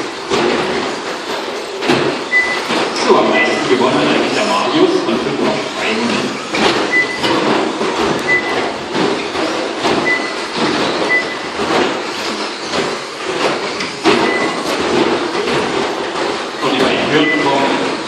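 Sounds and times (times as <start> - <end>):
cars knocking against boards: 0.0 - 3.9, 5.4 - 18.0.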